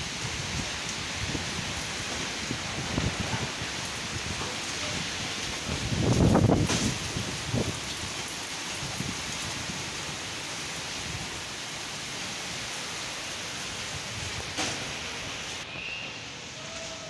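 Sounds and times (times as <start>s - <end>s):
rain in strong wind: 0.0s - 17.0s.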